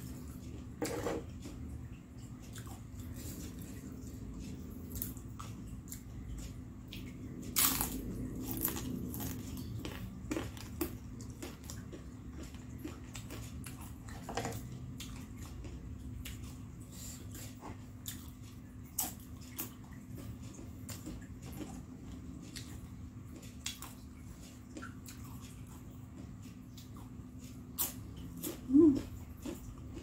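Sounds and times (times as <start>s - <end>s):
crunching and chewing fried snacks: 0.0s - 30.0s.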